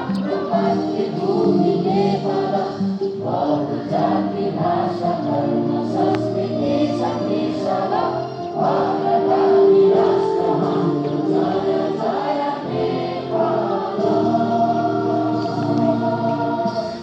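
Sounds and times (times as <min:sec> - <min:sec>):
children singing in chorus: 0:00.0 - 0:17.0.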